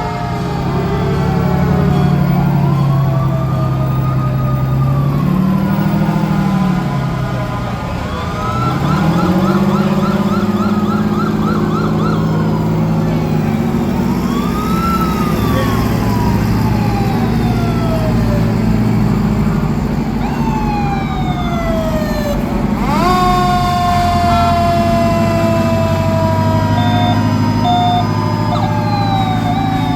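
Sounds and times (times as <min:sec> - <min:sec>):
fire truck sirens wailing: 0:00.0 - 0:29.9
low drone of truck engines: 0:00.0 - 0:29.9.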